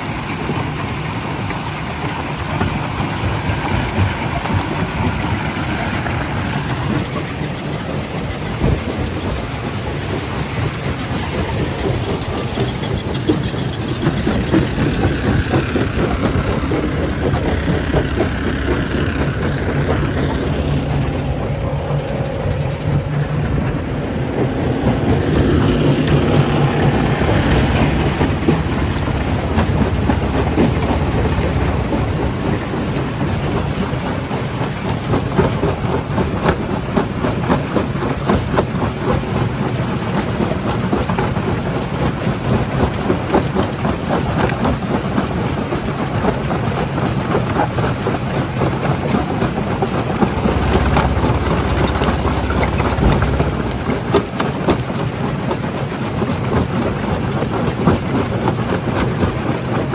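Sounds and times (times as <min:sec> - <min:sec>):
low machine rumble: 0:00.0 - 0:59.9.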